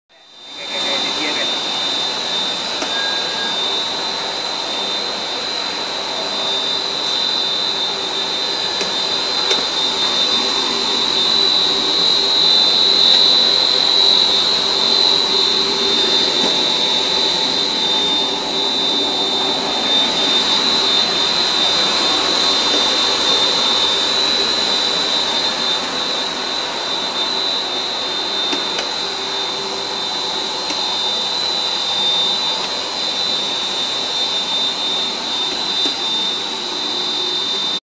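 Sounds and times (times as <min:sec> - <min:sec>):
machine running with high whine: 0:00.1 - 0:37.8.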